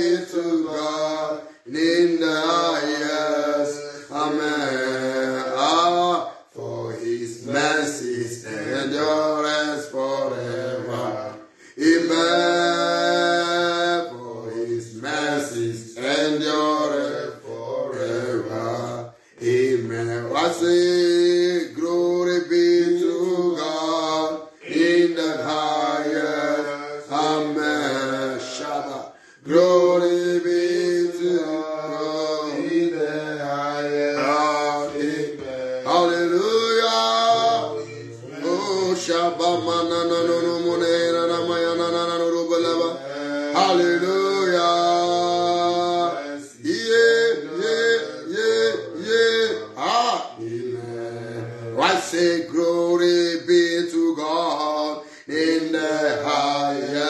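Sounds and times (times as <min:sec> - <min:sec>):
man singing unaccompanied: 0:00.0 - 0:57.0.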